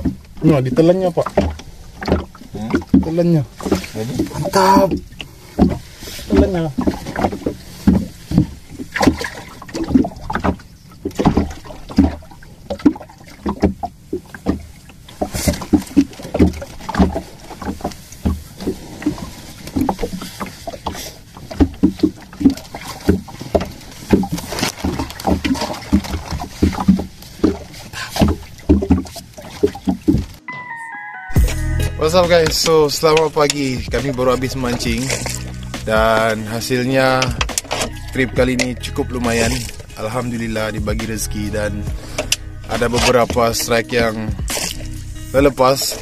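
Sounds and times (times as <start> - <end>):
water slapping against boat hull: 0.0 - 30.5, 32.3 - 46.0.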